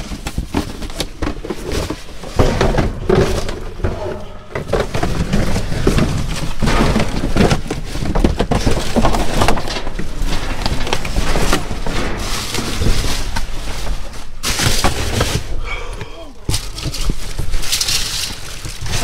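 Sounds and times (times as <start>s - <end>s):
rustling boxes and plastic bags: 0.0s - 19.0s.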